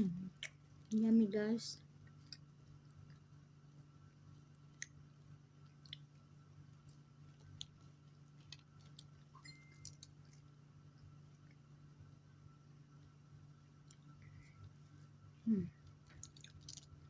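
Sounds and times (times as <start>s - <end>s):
steady low hum: 0.0s - 17.0s
chewing and mouth clicks: 0.2s - 1.1s, 1.8s - 11.7s, 13.6s - 17.0s.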